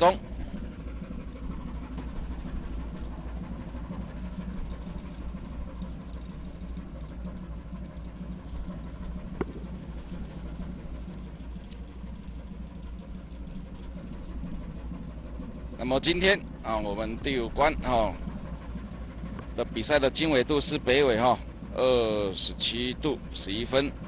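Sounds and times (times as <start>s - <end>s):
ship engine droning: 0.0s - 24.0s.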